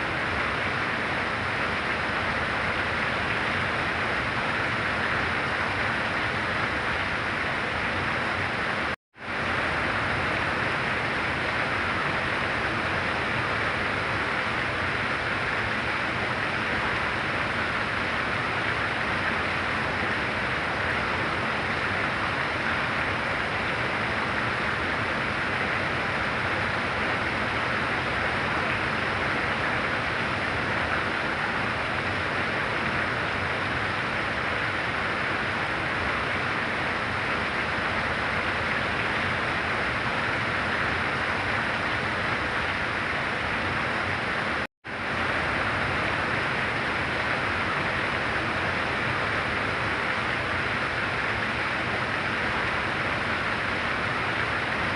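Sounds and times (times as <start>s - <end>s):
very heavy rain pouring: 0.0s - 54.9s.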